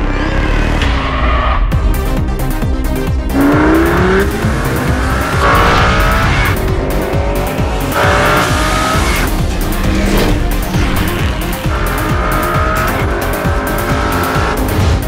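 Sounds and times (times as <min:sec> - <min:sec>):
music with a steady beat: 0:01.8 - 0:15.0
sports car engine accelerating: 0:02.8 - 0:15.0.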